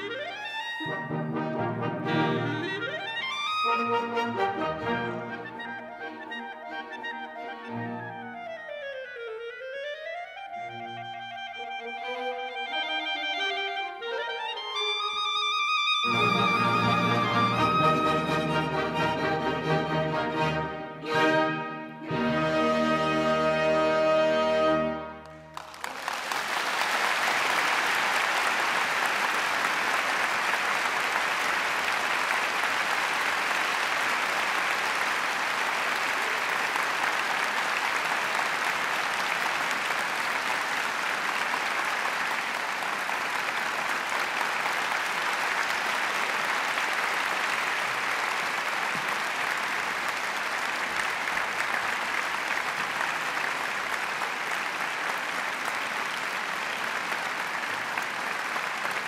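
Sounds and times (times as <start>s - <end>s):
audience applauding: 0.0s - 8.5s, 11.1s - 23.5s, 25.0s - 59.0s.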